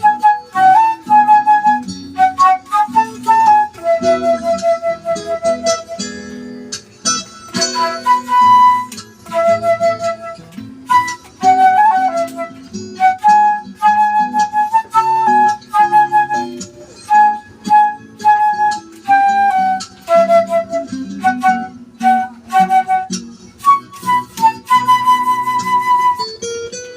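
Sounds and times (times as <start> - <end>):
lower accompaniment: 0.0 - 26.7
flute melody: 0.0 - 26.9.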